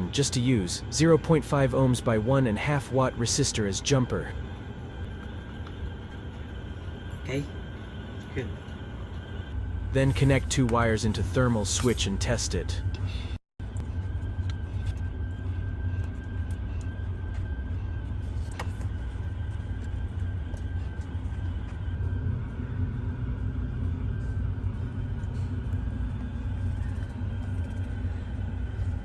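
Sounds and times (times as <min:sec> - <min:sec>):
low rumble: 0:04.0 - 0:29.0.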